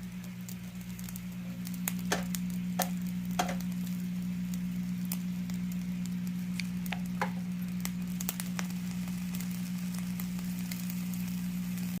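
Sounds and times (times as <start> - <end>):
sharp crackles and pops: 0.0 - 12.0
squid sizzling on a grill: 0.0 - 12.0
steady low hum: 0.0 - 12.0.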